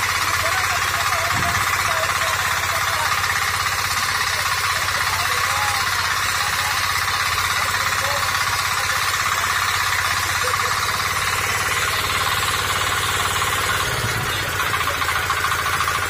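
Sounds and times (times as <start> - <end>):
diesel engine chugging: 0.0 - 16.0.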